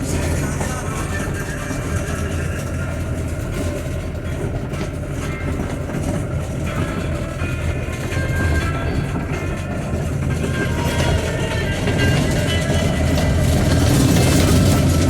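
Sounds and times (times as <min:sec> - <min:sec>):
vehicle driving heard from cab: 0:00.0 - 0:15.0.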